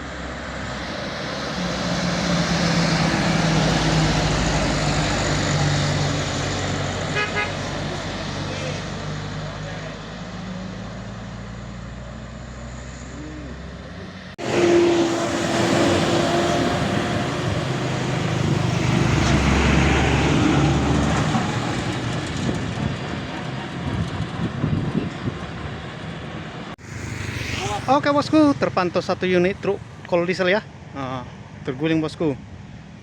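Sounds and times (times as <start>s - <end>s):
traffic noise: 0.0s - 33.0s.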